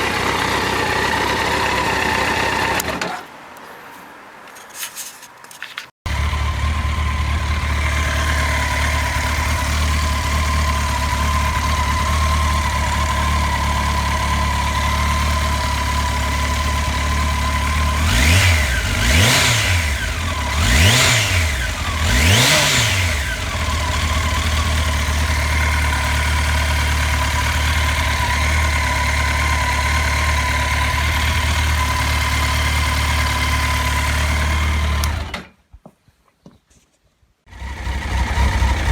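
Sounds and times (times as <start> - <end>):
motorcycle engine idling and revving: 0.0 - 3.2, 6.1 - 35.5, 37.5 - 38.9.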